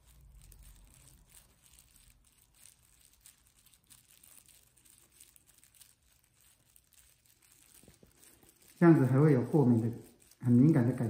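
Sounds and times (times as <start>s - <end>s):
faint rustling and crackles: 0.0s - 11.0s.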